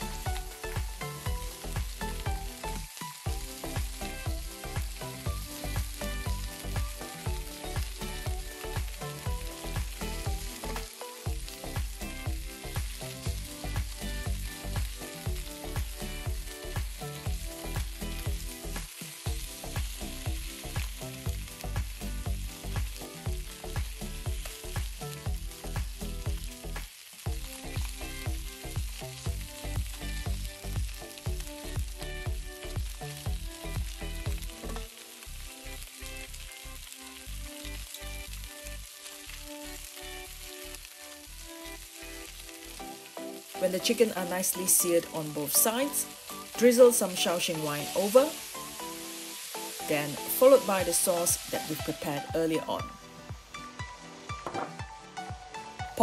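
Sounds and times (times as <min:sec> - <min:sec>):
chicken wings sizzling in a pan: 0:00.0 - 0:54.5
background music with a beat: 0:00.0 - 0:56.0.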